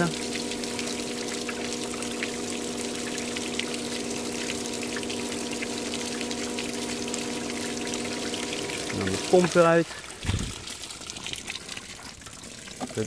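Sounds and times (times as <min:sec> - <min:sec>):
pump motor hum: 0:00.0 - 0:13.0
water jetting and splashing: 0:00.0 - 0:13.0.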